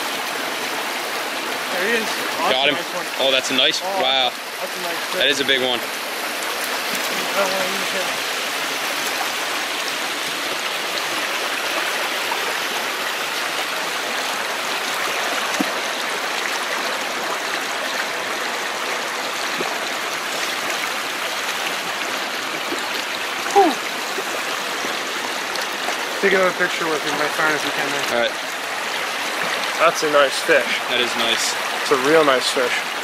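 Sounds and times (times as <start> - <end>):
stream rushing over stones: 0.0 - 33.0.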